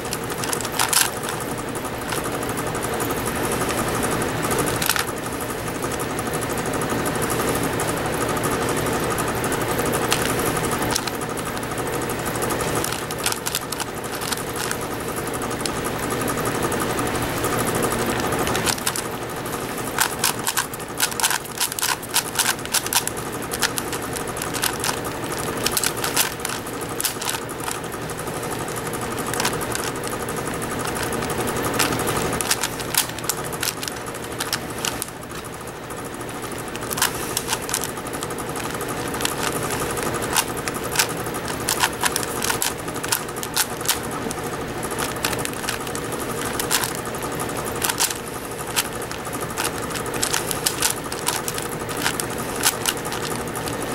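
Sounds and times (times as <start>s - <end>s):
plastic puzzle cube clacking: 0.0s - 5.3s, 8.8s - 53.9s
steady background hum: 0.0s - 53.9s.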